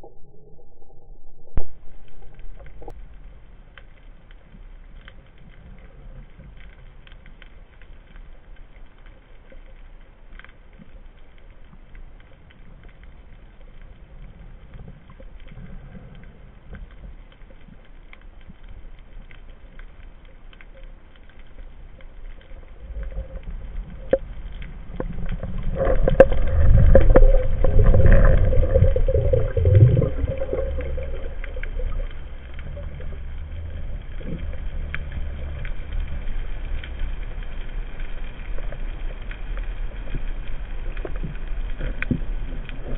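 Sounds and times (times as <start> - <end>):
low underwater rumbling: 0.0 - 42.9.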